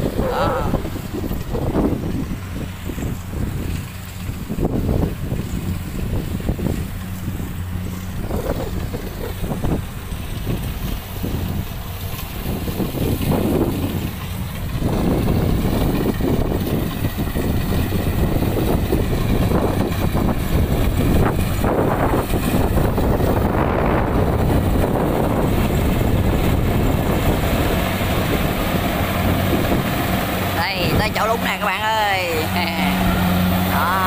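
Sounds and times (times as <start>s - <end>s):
harvester engines droning: 0.0s - 34.0s
wind buffeting microphone: 0.0s - 34.0s.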